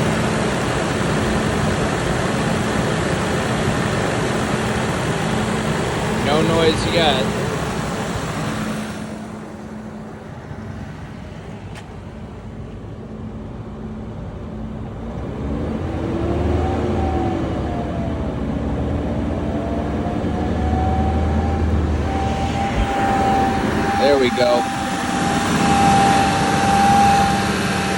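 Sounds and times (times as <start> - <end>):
van engine humming: 0.0 - 27.9
whine drifting in pitch: 0.0 - 27.9.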